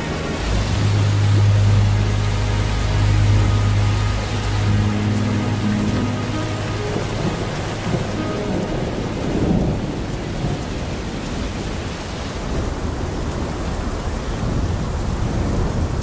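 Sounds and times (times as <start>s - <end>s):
steady rain falling: 0.0s - 16.0s
thunder rumbling: 0.0s - 16.0s.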